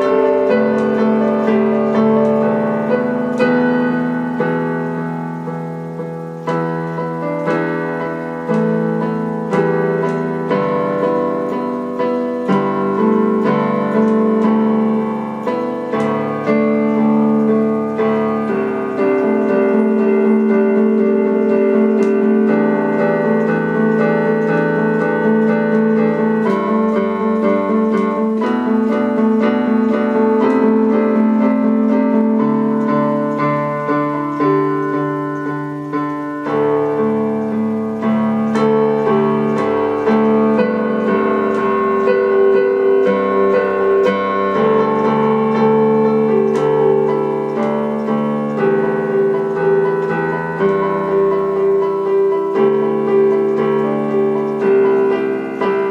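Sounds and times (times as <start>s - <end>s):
piano music: 0.0s - 55.9s.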